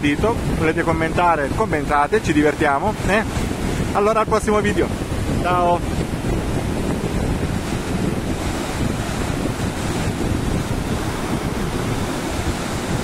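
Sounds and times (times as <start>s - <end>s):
river churning over rocks: 0.0s - 13.0s
waterfall rushing: 0.0s - 13.0s.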